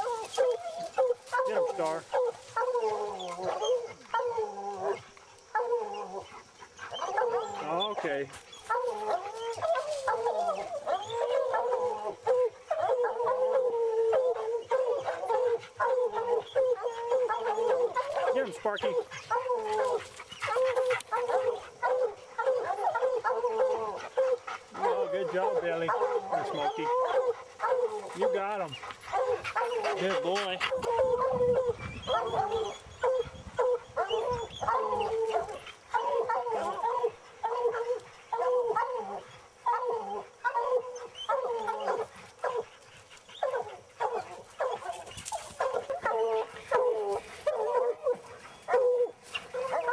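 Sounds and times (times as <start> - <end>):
hounds baying: 0.0 - 49.9.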